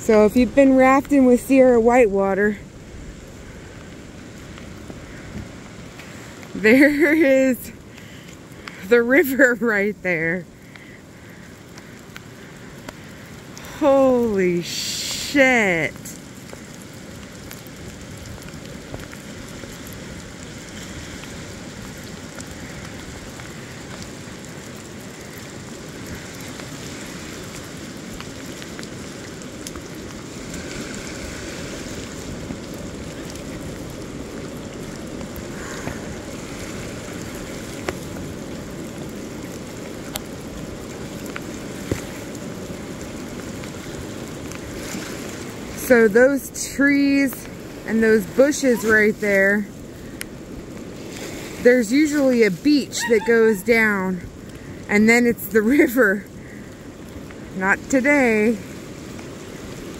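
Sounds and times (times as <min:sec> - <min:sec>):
falling rain: 0:00.0 - 0:59.9
river rushing: 0:00.0 - 0:59.9.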